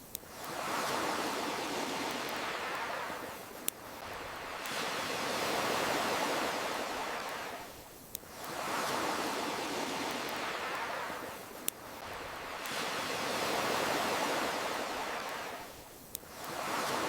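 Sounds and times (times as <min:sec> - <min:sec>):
ocean surf washing: 0:00.0 - 0:17.0.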